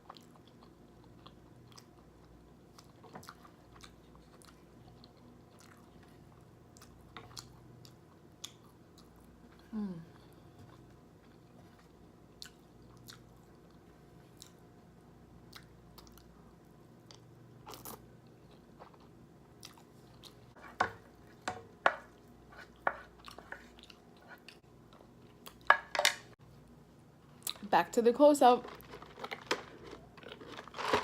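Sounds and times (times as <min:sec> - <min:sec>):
person chewing food: 0:00.0 - 0:09.7, 0:10.4 - 0:25.7, 0:28.7 - 0:31.0.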